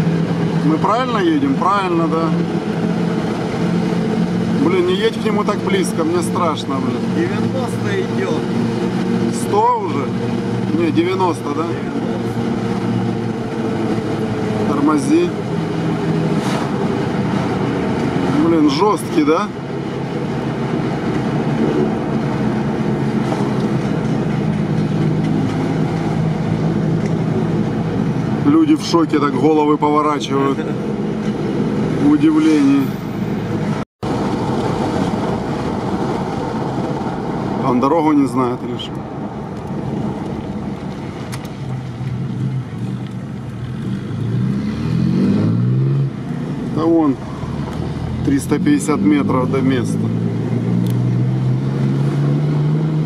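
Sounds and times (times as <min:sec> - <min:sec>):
car engine and tyre drone: 0:00.0 - 0:53.0.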